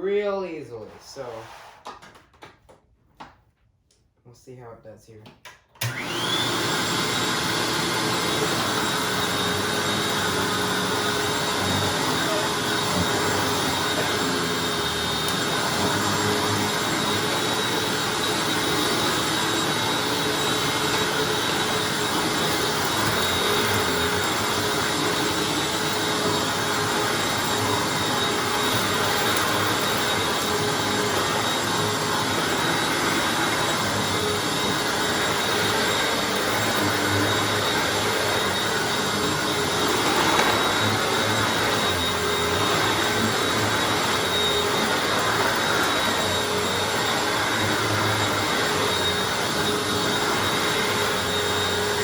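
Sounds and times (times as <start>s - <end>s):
vacuum cleaner running: 5.8s - 52.0s.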